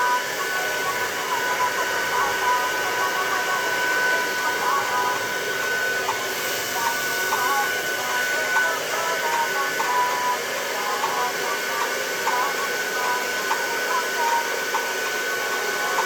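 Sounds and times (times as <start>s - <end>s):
faint music with singing: 0.0s - 16.0s
hair dryer blowing: 0.0s - 16.0s.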